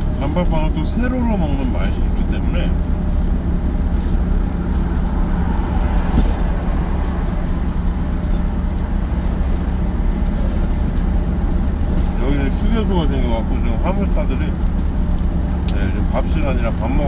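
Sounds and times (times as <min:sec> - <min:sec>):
constant hum: 0:00.0 - 0:17.0
road rumble: 0:00.0 - 0:17.0
truck engine drone: 0:00.0 - 0:17.0.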